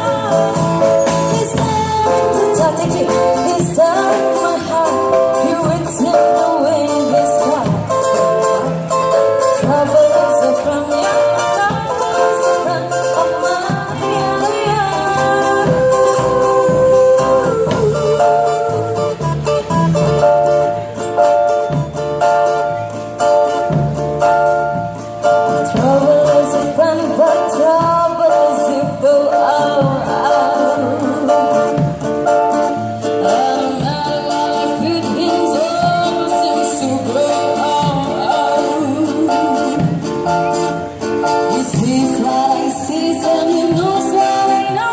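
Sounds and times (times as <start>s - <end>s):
person singing: 0.0s - 20.6s, 25.4s - 44.9s
bass line: 0.0s - 44.9s
guitar accompaniment: 0.0s - 44.9s
plucked strings: 0.0s - 44.9s.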